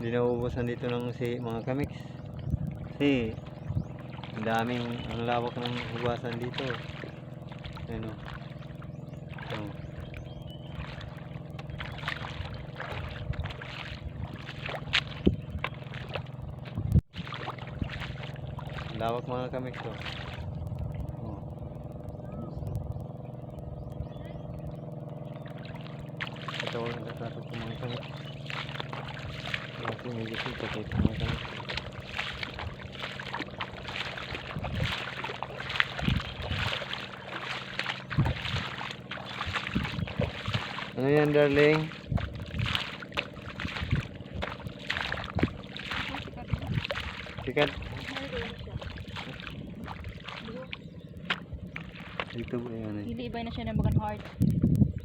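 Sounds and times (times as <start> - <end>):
footsteps sloshing through water: 0.0 - 55.0
small engine running: 0.0 - 55.0
steady low hum: 0.0 - 55.0.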